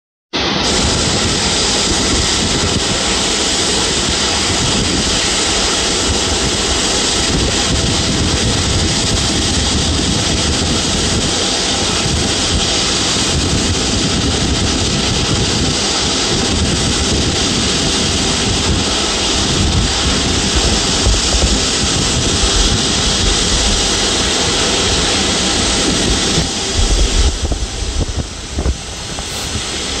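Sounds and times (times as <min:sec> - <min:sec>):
jet engine roaring: 0:00.4 - 0:30.0.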